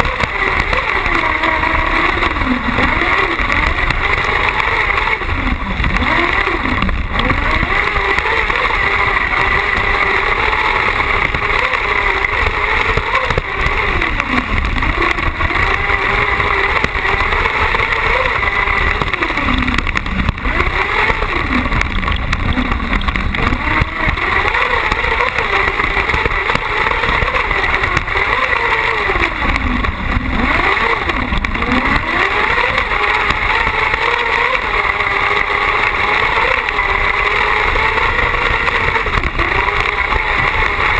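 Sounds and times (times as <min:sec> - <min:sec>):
buggy engine revving: 0:00.0 - 0:40.9.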